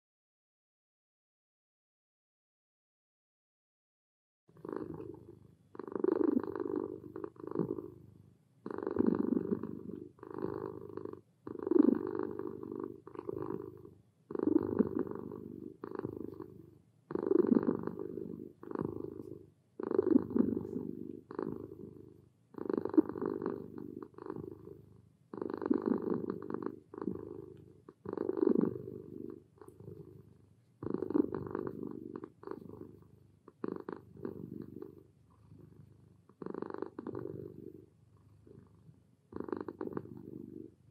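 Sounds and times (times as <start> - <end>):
kitten purring: 4.5 - 40.9.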